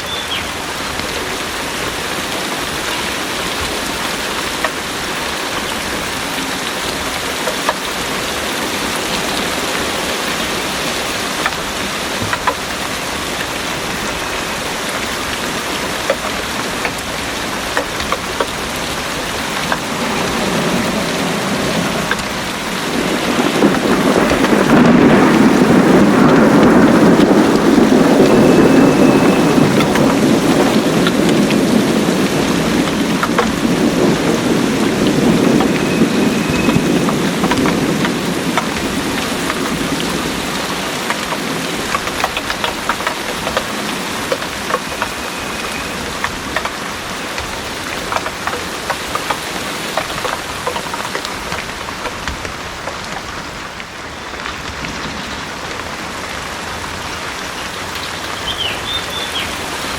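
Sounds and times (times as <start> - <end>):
thunder rumbling: 0.0 - 58.0
heavy rain pouring: 0.0 - 59.9.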